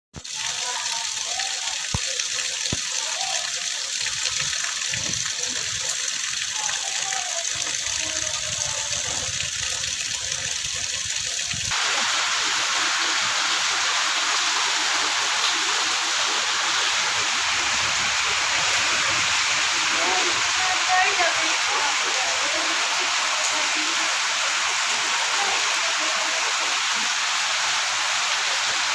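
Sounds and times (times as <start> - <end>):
heavy rain falling: 0.3 - 28.9.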